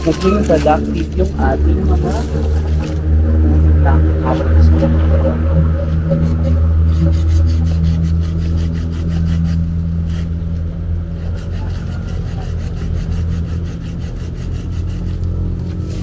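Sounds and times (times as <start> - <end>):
hand saw cutting a branch: 0.0 - 3.1, 6.1 - 16.0
steady low hum: 0.0 - 16.0.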